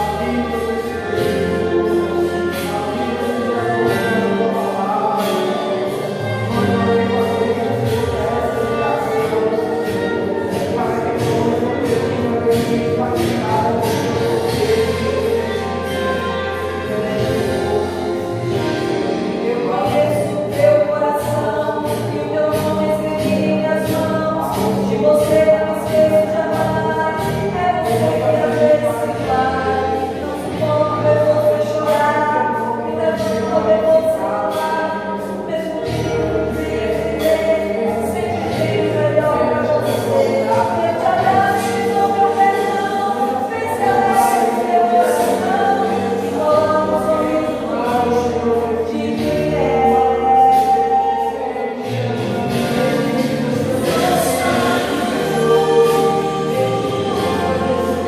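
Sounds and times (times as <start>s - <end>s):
accompanying instruments: 0.0s - 58.0s
slow gospel hymn music: 0.0s - 58.0s.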